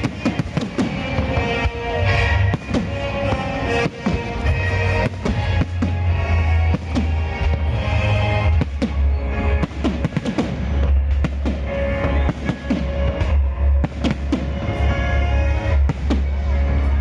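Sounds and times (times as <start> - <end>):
fireworks bangs: 0.0 - 17.0
loud music with heavy bass: 0.0 - 17.0.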